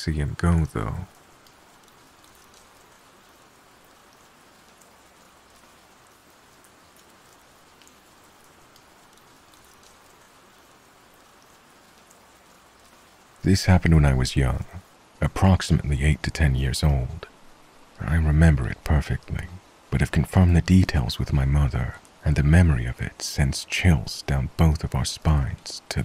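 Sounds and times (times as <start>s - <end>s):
faint rain hiss: 0.0s - 26.0s
rain drop ticks: 0.0s - 26.0s.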